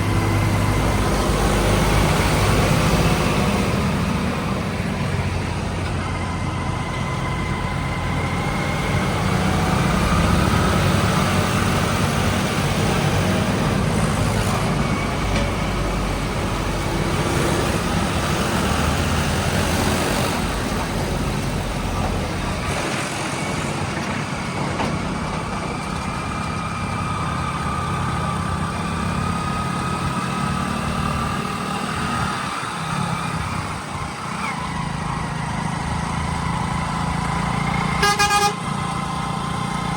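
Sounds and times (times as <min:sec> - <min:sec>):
diesel machinery engine rumble: 0:00.0 - 0:39.9.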